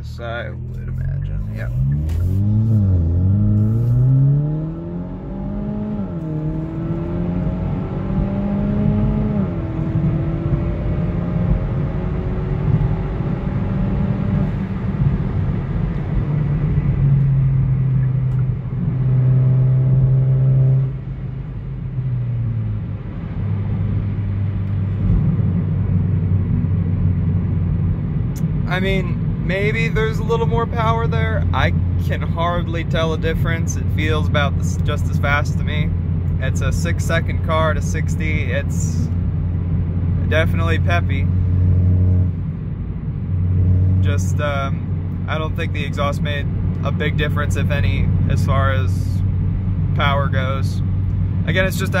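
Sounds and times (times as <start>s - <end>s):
car engine accelerating hard: 0.2s - 52.0s.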